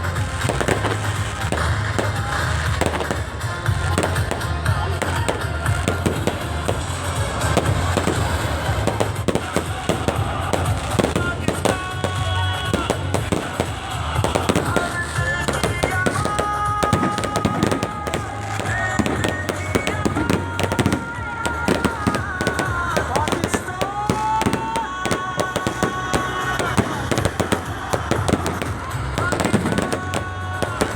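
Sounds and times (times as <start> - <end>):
fireworks crackling and popping: 0.0 - 30.9
music: 0.0 - 30.9.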